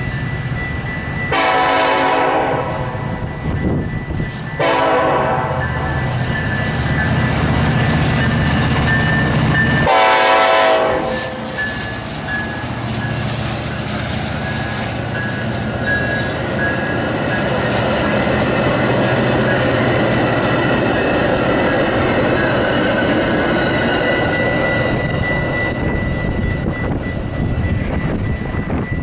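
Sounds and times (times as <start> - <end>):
locomotive engine drone: 0.0 - 29.0
train cars rolling: 0.0 - 29.0.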